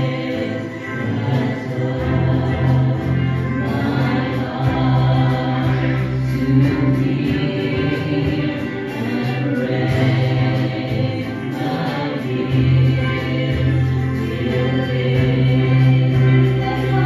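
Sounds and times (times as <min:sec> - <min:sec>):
acoustic guitar: 0:00.0 - 0:17.0
group singing a hymn: 0:00.0 - 0:17.0.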